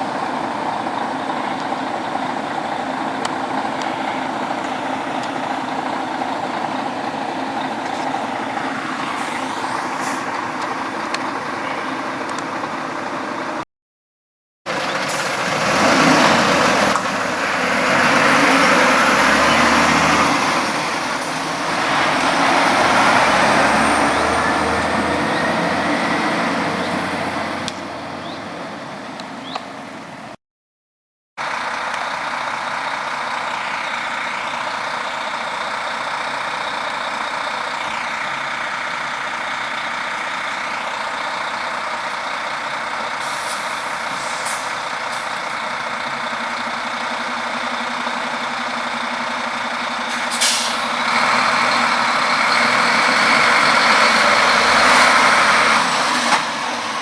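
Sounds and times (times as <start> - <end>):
heavy trucks passing: 0.0 - 13.6, 14.7 - 30.4, 31.4 - 57.0
steady traffic noise: 0.0 - 13.6, 14.7 - 30.4, 31.4 - 57.0.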